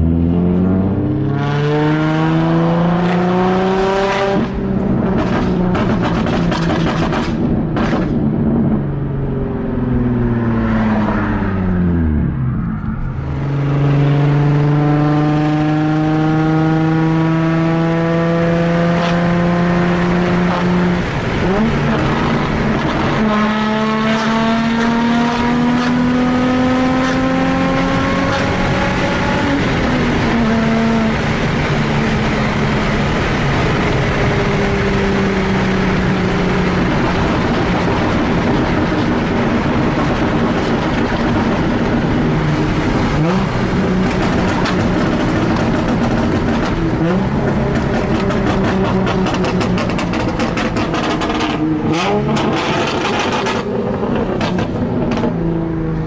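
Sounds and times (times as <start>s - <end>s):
loud car engine through exhaust: 0.0s - 56.0s.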